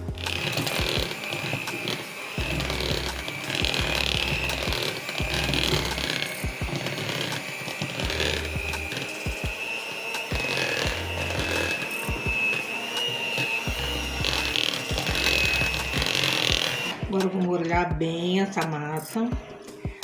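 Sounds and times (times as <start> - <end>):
electric hand mixer whine: 0.0 - 17.8
background music: 0.0 - 20.0.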